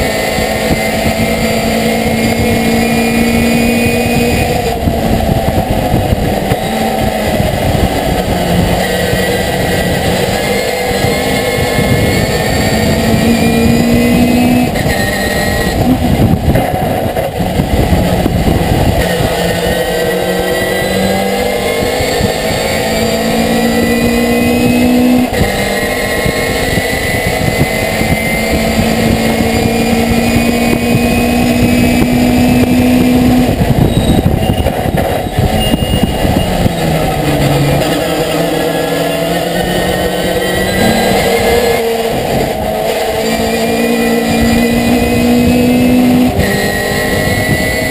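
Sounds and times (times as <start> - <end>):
truck engine at full throttle: 0.0 - 47.9.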